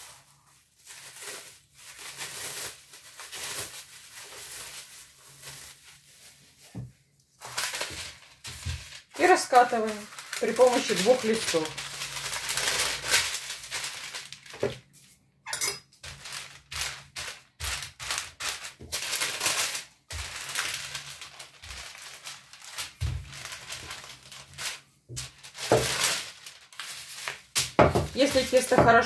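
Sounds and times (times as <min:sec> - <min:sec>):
parchment rustling under rolling pin: 0:00.0 - 0:15.3, 0:15.9 - 0:29.0.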